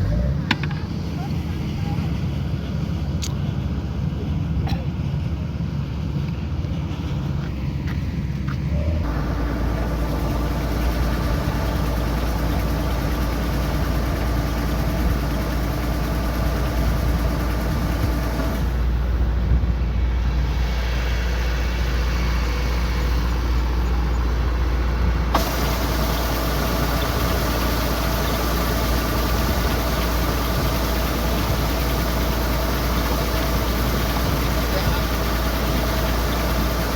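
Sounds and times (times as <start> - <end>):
combine harvester diesel engine drone: 0.0 - 36.9.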